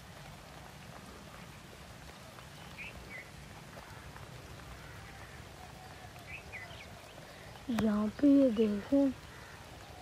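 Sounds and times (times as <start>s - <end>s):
faint raindrop ticks: 0.0s - 10.0s
light rain falling: 0.0s - 10.0s.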